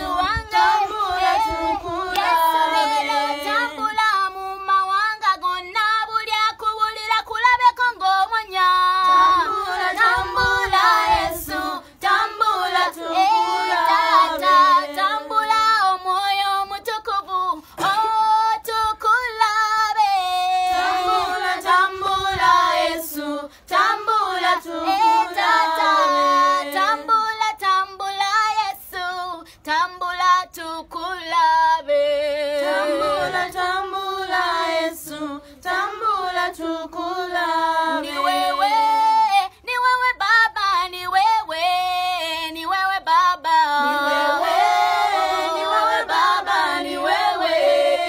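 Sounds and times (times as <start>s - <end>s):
girl singing: 0.0s - 48.0s.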